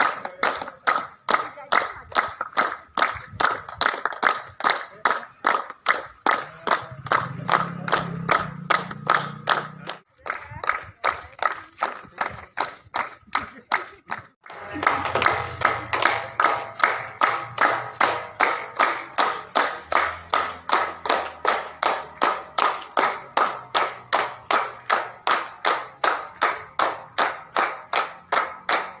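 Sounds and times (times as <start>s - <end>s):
audience clapping in time: 0.0s - 29.0s.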